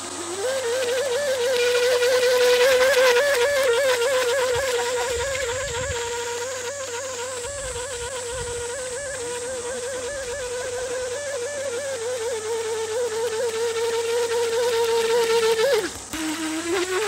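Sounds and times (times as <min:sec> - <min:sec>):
model speedboat motor whining: 0:00.0 - 0:17.0.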